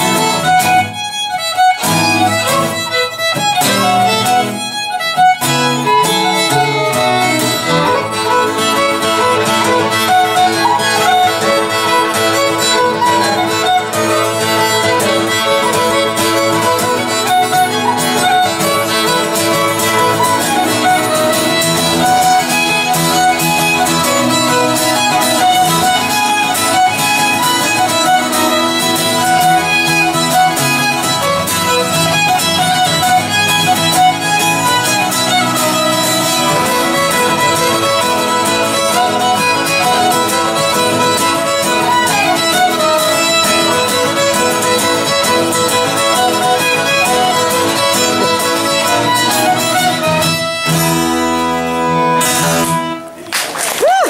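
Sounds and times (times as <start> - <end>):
piano accordion: 0.0 - 53.1
acoustic guitar: 0.0 - 54.0
fiddles: 0.0 - 54.0.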